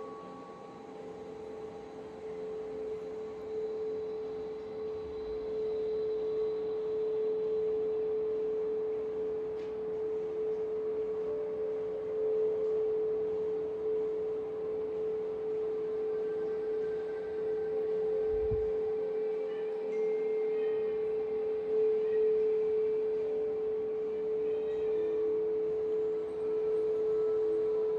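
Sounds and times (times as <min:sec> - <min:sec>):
steady meditation tone: 0:00.0 - 0:27.9.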